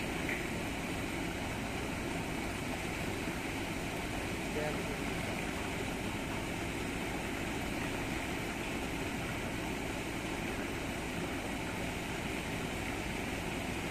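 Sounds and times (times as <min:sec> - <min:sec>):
outdoor background rumble and hiss: 0:00.0 - 0:13.9.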